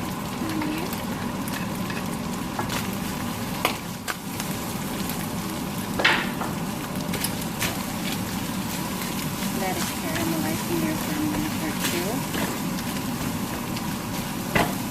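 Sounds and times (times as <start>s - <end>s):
meat sizzling in a frying pan: 0.0s - 14.9s.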